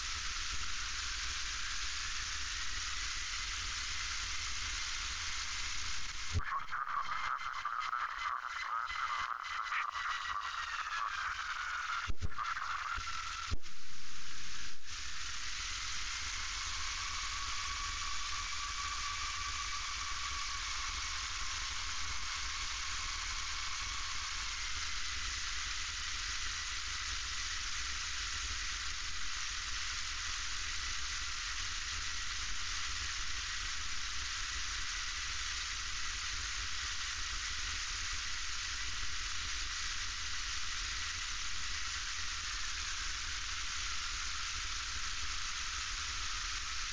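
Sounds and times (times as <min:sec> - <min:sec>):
cockpit hiss: 0:00.0 - 0:46.9
faint wavering whine: 0:00.0 - 0:46.9.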